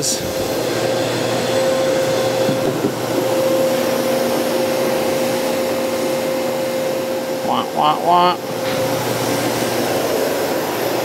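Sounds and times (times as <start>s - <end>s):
dust collector hissing: 0.0s - 11.0s
dust collector whine: 0.0s - 11.0s.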